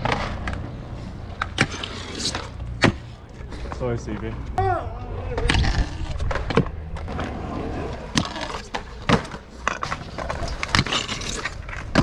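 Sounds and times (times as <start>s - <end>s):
scooter wheels rolling on concrete: 0.0s - 12.0s.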